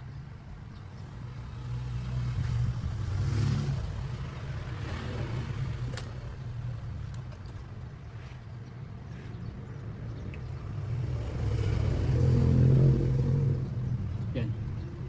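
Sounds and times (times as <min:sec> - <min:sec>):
passing vehicle engine rumble: 0:00.2 - 0:15.0.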